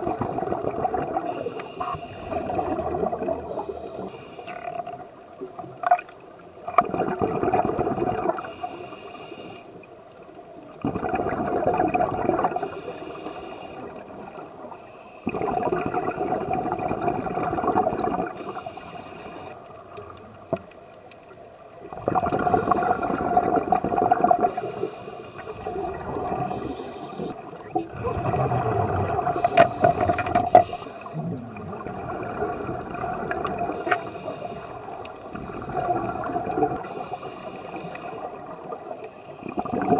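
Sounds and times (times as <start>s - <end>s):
underwater bubbling and gurgling: 0.0s - 39.9s
underwater hum: 0.0s - 39.9s.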